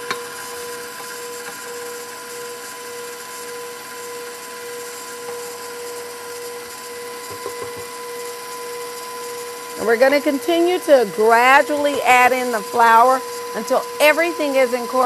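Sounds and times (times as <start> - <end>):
stand mixer motor whine: 0.0 - 15.0.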